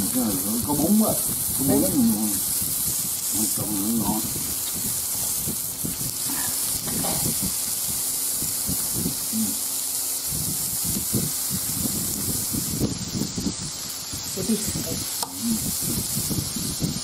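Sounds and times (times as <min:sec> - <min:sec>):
beef sizzling on a grill: 0:00.0 - 0:17.0.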